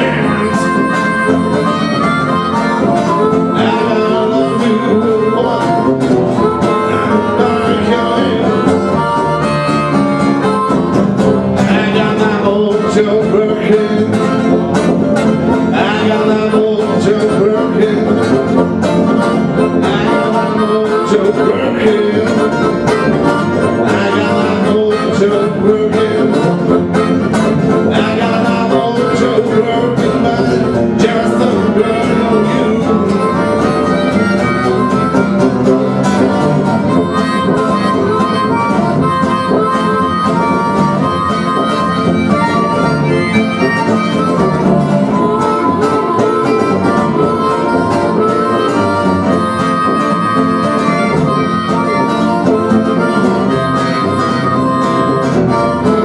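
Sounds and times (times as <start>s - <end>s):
blues harmonica: 0.0s - 56.0s
strummed acoustic guitar: 0.0s - 56.0s.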